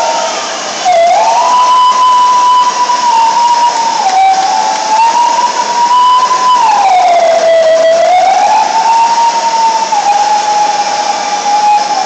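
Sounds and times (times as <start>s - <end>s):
vacuum cleaner wailing tone: 0.0s - 12.0s.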